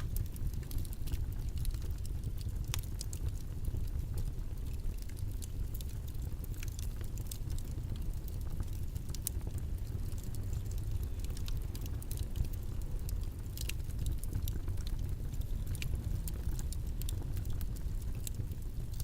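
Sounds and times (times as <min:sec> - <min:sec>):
faint clicks and ticks: 0:00.0 - 0:19.0
low rumbling noise: 0:00.0 - 0:19.0.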